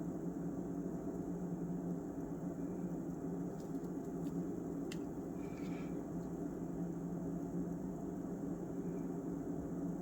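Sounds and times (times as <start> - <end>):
steady low hum with hiss: 0.0 - 10.0.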